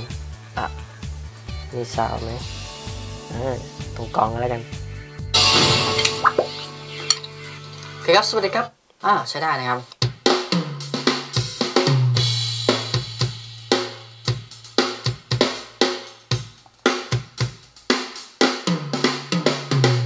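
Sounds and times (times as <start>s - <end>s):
drum kit playing: 0.0s - 8.2s, 9.9s - 20.0s
backing music with bass line: 0.0s - 8.7s, 10.0s - 20.0s.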